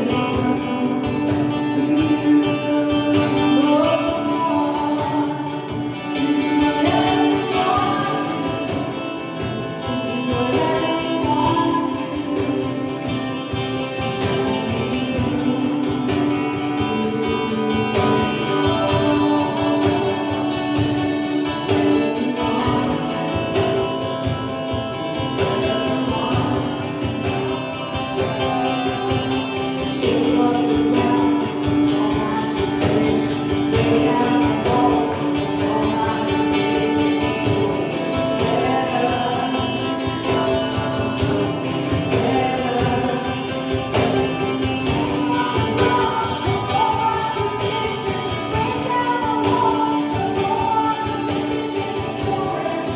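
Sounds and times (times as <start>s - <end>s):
band with guitar: 0.0s - 52.9s.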